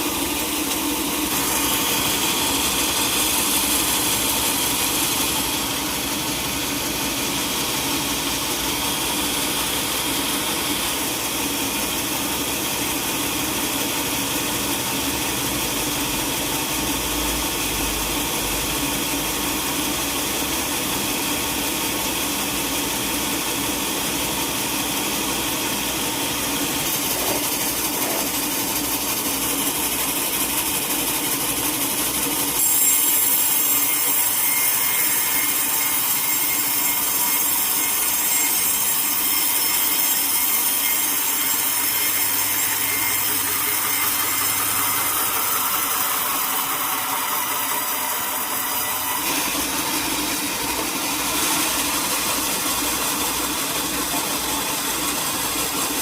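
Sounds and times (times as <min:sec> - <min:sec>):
sawmill machine running: 0:00.0 - 0:56.0.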